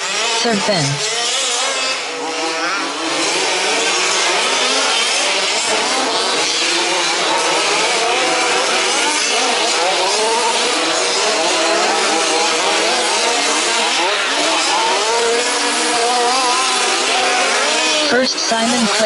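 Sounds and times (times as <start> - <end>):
remote-control buggy engines revving: 0.0 - 19.0.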